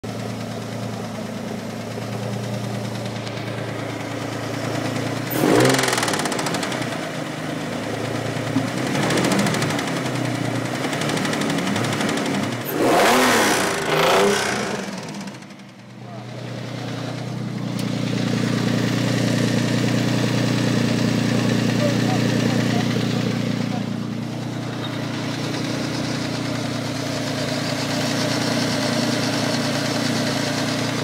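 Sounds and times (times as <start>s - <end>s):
car engine idling and revving: 0.0s - 31.0s
fast engine tapping: 0.2s - 31.0s.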